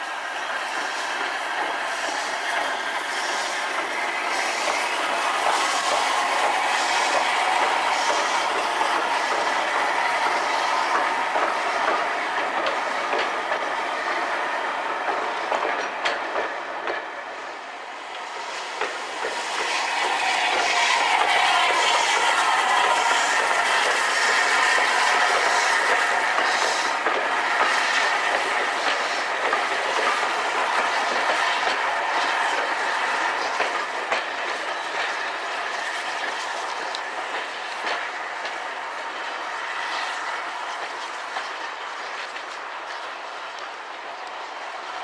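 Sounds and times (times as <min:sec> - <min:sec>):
train wheels clicking over rail joints: 0:00.4 - 0:45.0.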